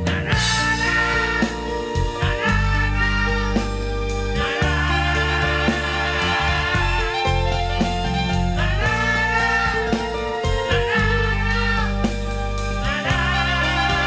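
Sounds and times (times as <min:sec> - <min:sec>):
band music with guitar: 0:00.0 - 0:14.0
wavering melody line: 0:00.4 - 0:14.0.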